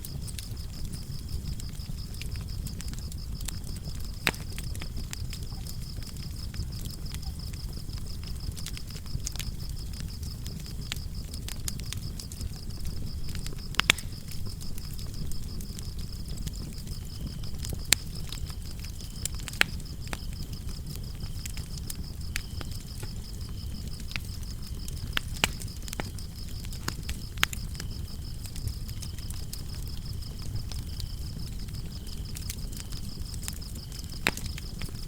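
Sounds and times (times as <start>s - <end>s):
crickets chirping: 0.0s - 35.0s
lower cricket chirping: 0.0s - 35.0s
wood fire crackling: 0.0s - 35.0s.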